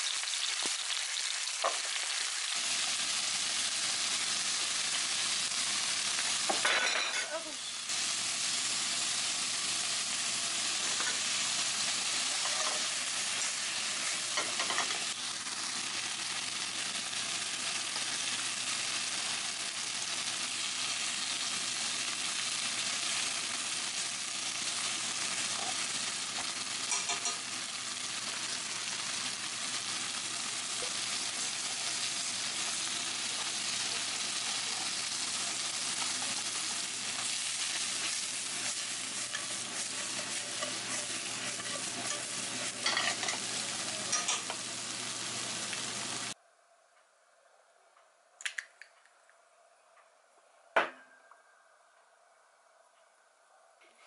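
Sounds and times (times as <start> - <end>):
food sizzling in a pan: 0.0 - 46.4.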